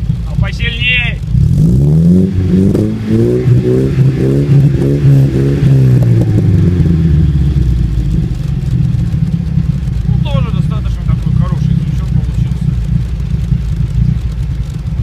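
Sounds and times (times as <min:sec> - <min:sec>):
engine revving through exhaust: 0:00.0 - 0:15.0.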